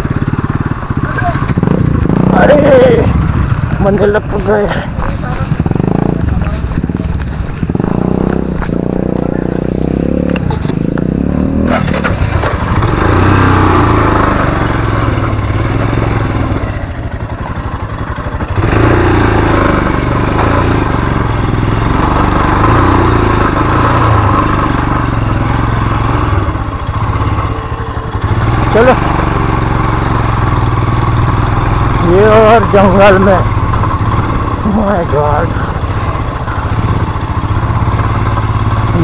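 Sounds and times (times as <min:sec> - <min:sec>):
motorcycle engine under load: 0:00.0 - 0:39.0.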